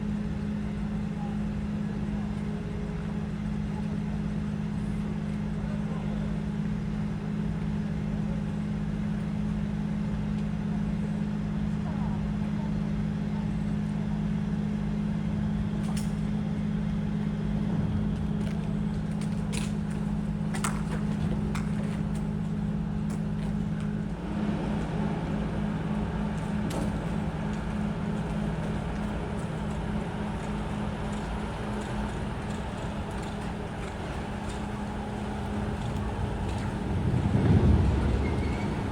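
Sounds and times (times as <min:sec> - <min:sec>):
low diesel engine drone: 0:00.0 - 0:38.9.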